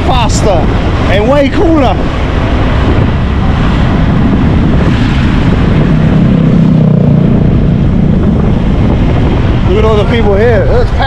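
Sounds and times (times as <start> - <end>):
motorcycle engine running: 0.0 - 11.0
wind rumbling on microphone: 0.0 - 11.0.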